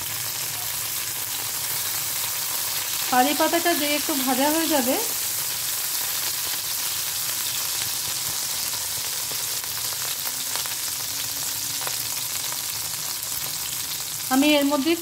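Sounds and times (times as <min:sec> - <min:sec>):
leaves sizzling in hot oil: 0:00.0 - 0:15.0.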